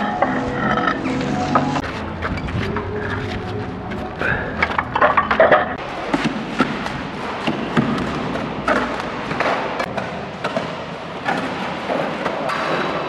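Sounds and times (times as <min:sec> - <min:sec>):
steady background din: 0:00.0 - 0:13.0.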